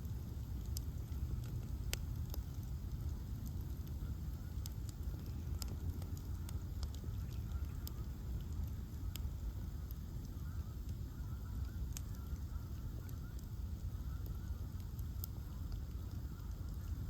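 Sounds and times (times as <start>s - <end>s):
bonfire rumble: 0.0s - 17.0s
fire crackling pops: 0.0s - 17.0s.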